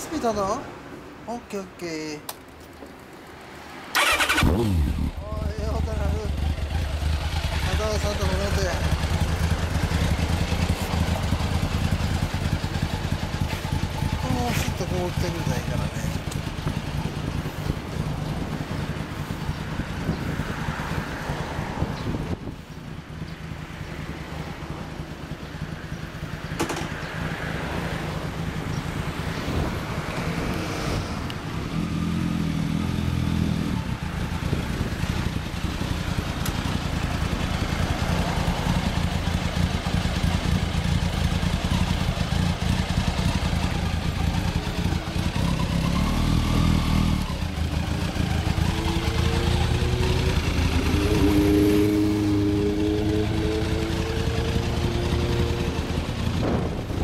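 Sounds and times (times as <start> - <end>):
motorcycle engine idling and revving: 2.4 - 57.0.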